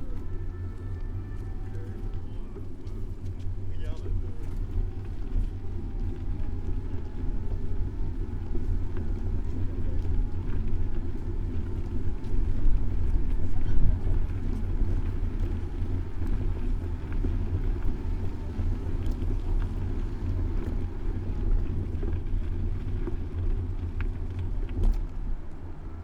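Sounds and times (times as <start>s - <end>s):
city traffic: 0.0s - 26.0s.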